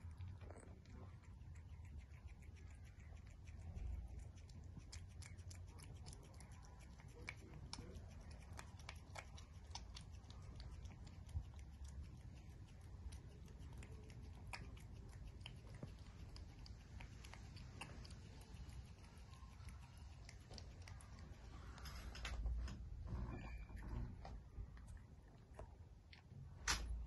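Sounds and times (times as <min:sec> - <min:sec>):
cat chewing and licking wet food: 0:00.0 - 0:27.0.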